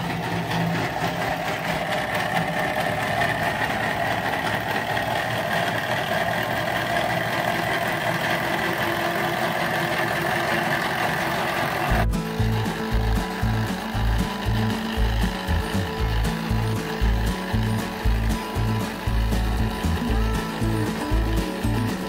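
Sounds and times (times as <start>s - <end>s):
small engine mechanical clatter: 0.0s - 22.0s.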